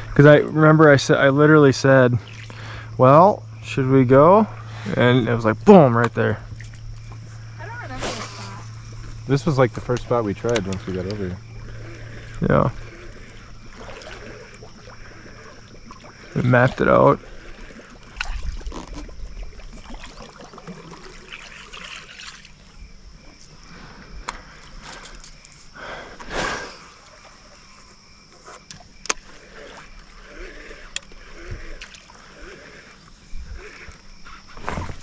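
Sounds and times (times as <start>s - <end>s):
water lapping against boat hull: 0.0s - 35.0s.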